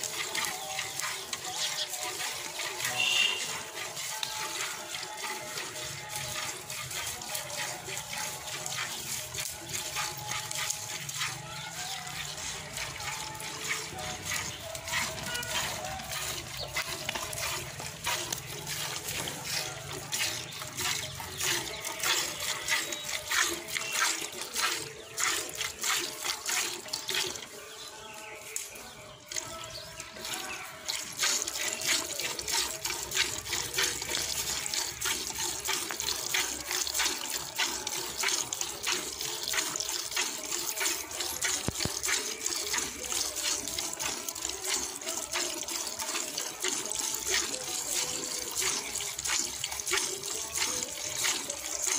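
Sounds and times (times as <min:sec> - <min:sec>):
milk squirting into a bucket: 0:00.0 - 0:51.9.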